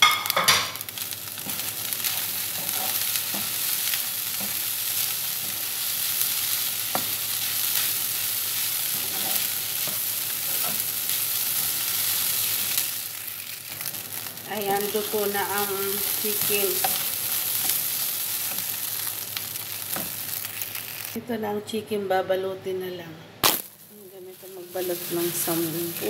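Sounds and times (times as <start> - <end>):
food sizzling in a frying pan: 0.0 - 21.2, 23.4 - 26.0.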